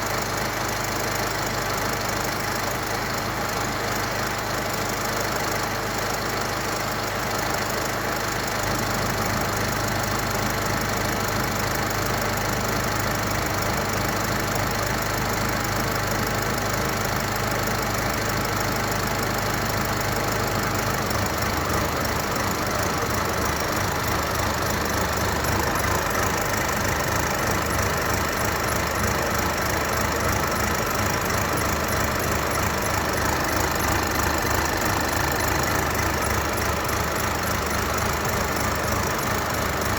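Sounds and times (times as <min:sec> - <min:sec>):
diesel engine idling unevenly: 0:00.0 - 0:39.9.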